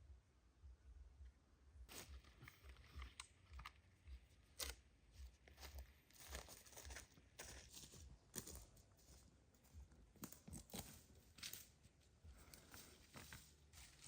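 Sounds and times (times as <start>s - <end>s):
rustling and crinkling: 1.9s - 14.0s.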